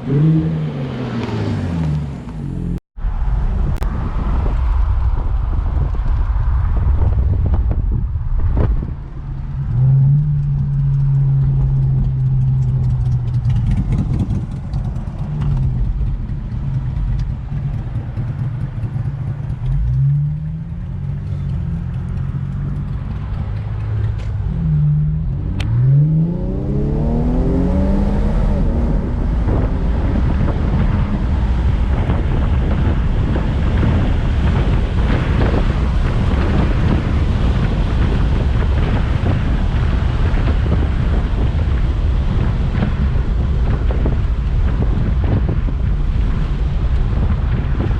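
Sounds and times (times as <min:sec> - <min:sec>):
wind rush: 0:00.0 - 0:21.0, 0:21.6 - 0:47.9
car engine accelerating: 0:00.0 - 0:47.9.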